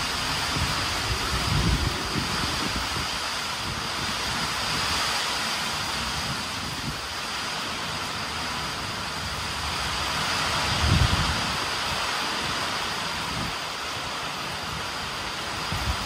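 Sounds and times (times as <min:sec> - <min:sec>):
heavy rain falling: 0:00.0 - 0:16.0
wind gusting on microphone: 0:00.0 - 0:16.0.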